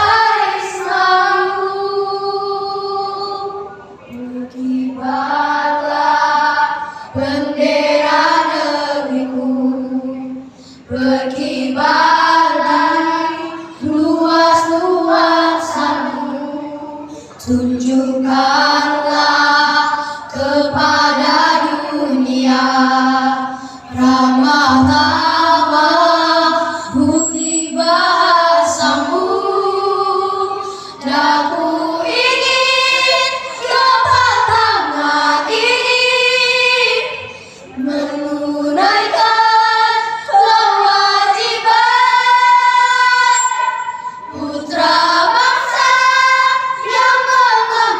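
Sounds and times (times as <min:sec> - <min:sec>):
women singing together: 0:00.0 - 0:47.9.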